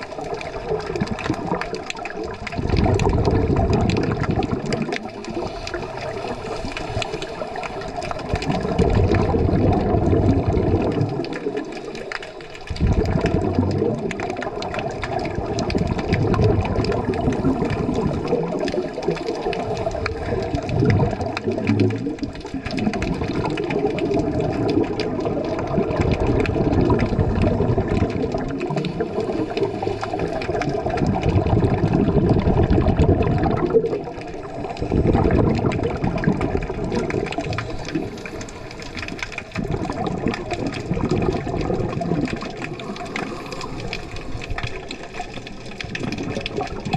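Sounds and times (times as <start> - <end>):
underwater air bubbles gurgling: 0.0 - 46.9.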